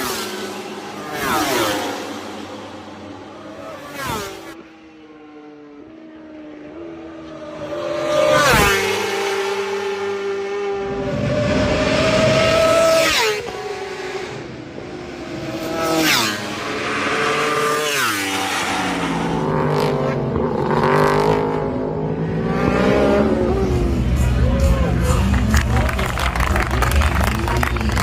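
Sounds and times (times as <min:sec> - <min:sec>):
race motorcycles passing at speed: 0:00.0 - 0:28.0.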